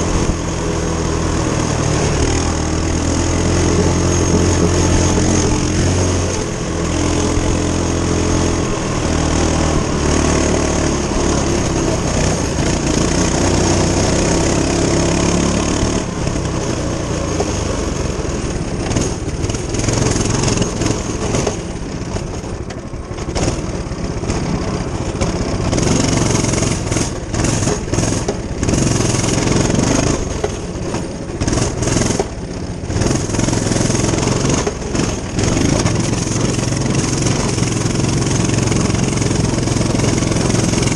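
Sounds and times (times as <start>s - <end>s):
minibike engine running: 0.0s - 40.9s.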